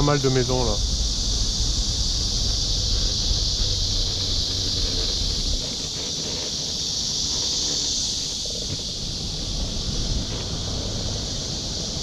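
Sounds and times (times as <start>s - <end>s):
high-pitched insect chorus: 0.0s - 12.0s
wind rumble on microphone: 0.0s - 12.0s.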